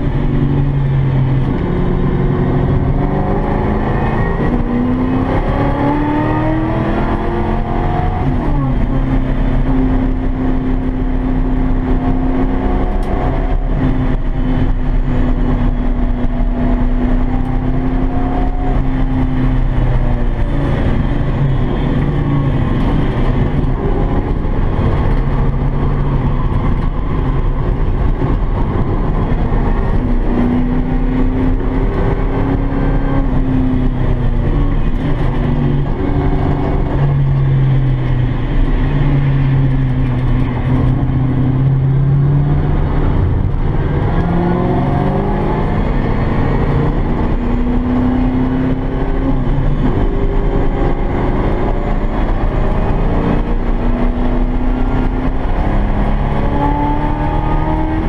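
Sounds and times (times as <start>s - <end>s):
car engine under hard driving: 0.0s - 58.0s.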